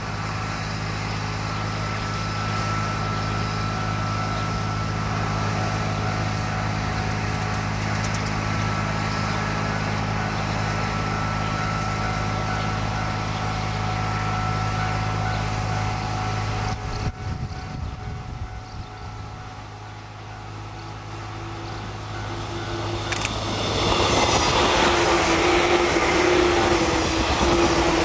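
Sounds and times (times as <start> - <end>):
low engine-like hum: 0.0 - 28.0.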